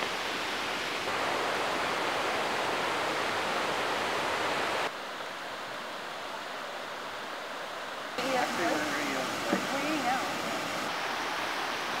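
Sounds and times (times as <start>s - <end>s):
water cascading in waterfall: 0.0s - 12.0s.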